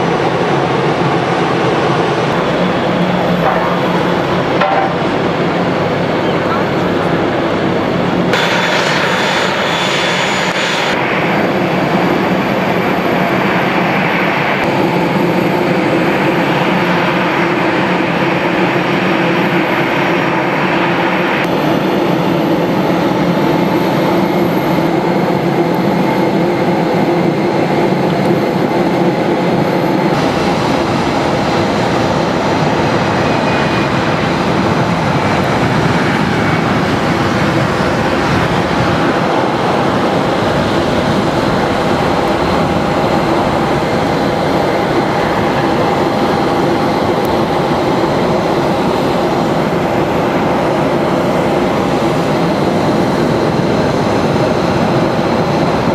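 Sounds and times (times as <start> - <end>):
jet engines whining: 0.0 - 55.9.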